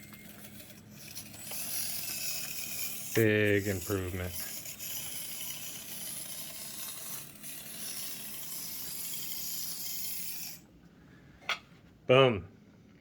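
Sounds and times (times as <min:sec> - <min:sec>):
small electric motor whirring: 0:00.0 - 0:10.7.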